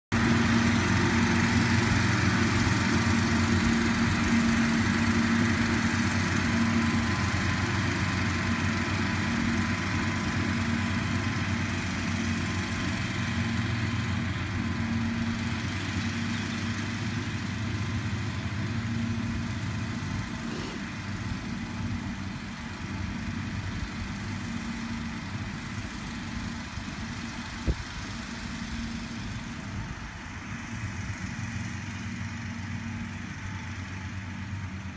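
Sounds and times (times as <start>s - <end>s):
tractor and mower engines humming: 0.1s - 34.9s.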